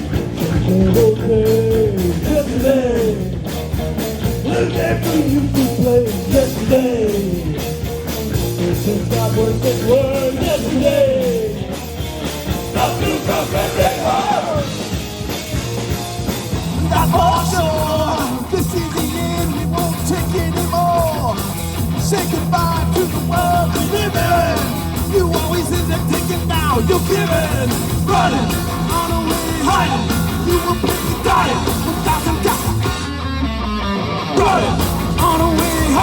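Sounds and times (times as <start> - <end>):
bass: 0.0 - 36.0
drums: 0.0 - 36.0
sliding lead guitar melody: 0.0 - 36.0.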